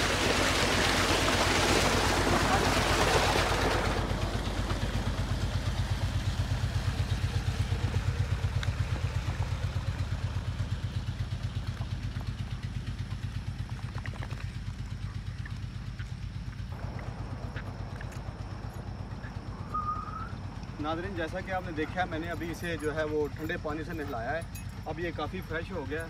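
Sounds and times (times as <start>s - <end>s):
pump engine rhythmic thumping: 0.0s - 26.0s.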